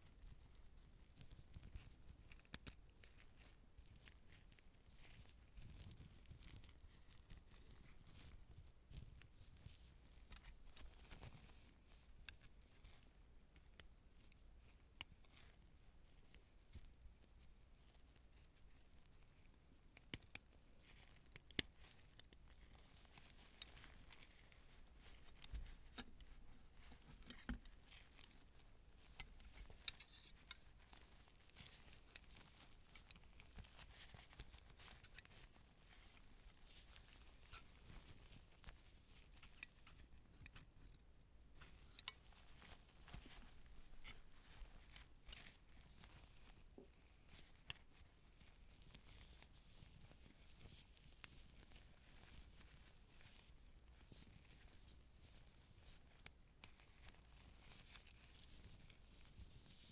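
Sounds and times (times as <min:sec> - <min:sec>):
soft rustling: 0:00.0 - 0:59.9.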